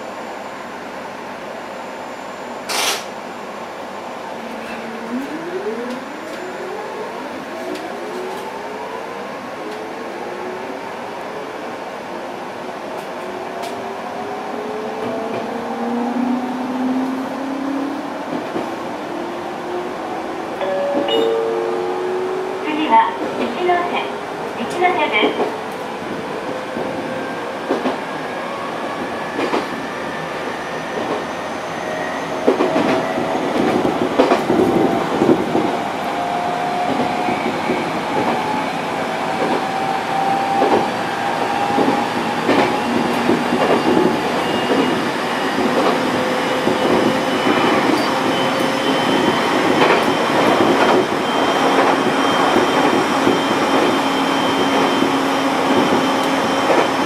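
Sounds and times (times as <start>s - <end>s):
train rumbling: 2.6s - 57.0s.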